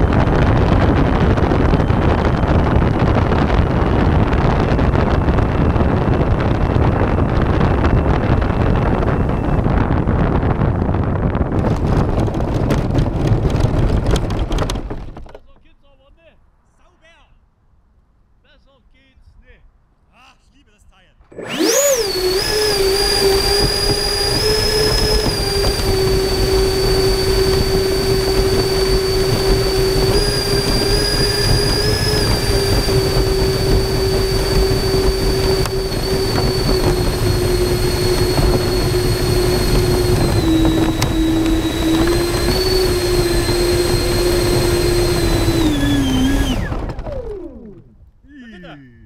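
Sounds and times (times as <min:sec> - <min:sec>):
low airflow rumble: 0:00.0 - 0:15.3, 0:21.3 - 0:49.0
electric fans whining: 0:00.0 - 0:15.4, 0:21.2 - 0:48.8.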